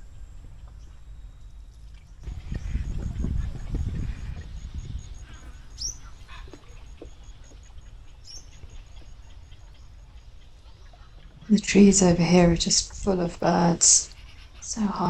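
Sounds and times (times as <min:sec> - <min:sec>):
birds chirping: 0:00.0 - 0:15.0
low rumble: 0:00.0 - 0:15.0.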